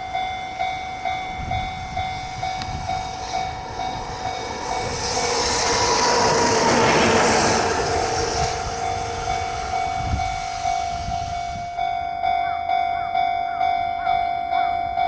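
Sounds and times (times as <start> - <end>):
level-crossing warning bell: 0.0 - 15.0
train passing: 0.0 - 15.0.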